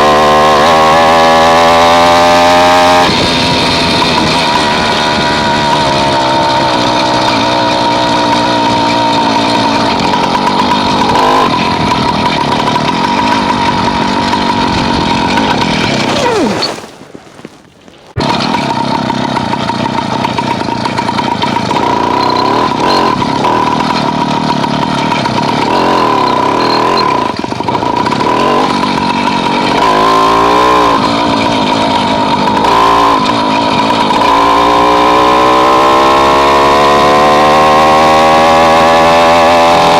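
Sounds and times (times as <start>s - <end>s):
small engine running hard: 0.0s - 16.7s, 18.2s - 39.9s.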